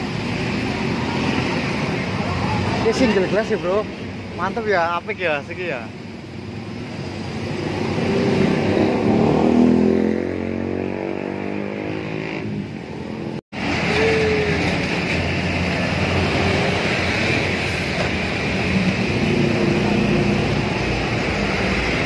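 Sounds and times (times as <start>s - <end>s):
passing road traffic: 0.0s - 22.0s.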